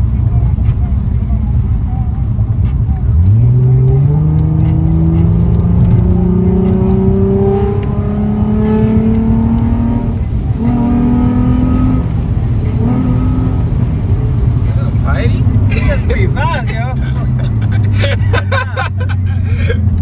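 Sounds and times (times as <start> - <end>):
car engine accelerating hard: 0.0 - 20.0
low road rumble: 0.0 - 20.0.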